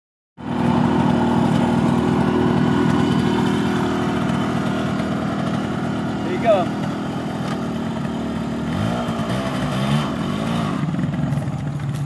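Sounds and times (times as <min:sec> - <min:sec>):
two-stroke motorcycle engine idling: 0:00.4 - 0:12.0.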